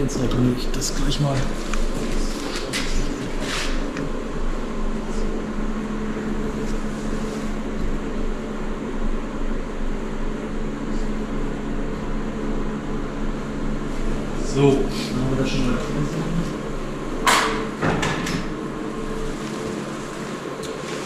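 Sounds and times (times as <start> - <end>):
fan heater humming: 0.0 - 21.0.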